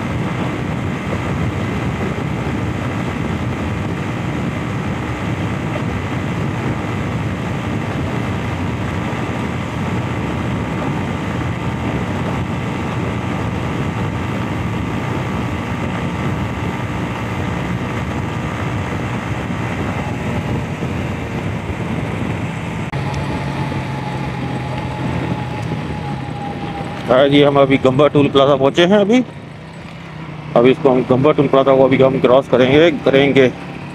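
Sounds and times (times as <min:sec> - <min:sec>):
motorcycle engine running: 0:00.0 - 0:33.9
wind rush on microphone: 0:00.0 - 0:33.9.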